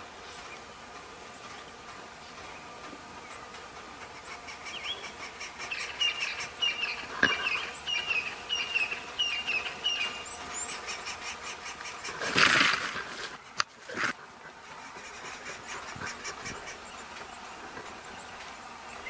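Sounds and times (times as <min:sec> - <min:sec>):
bird chirping: 0:00.0 - 0:12.8, 0:14.5 - 0:19.0.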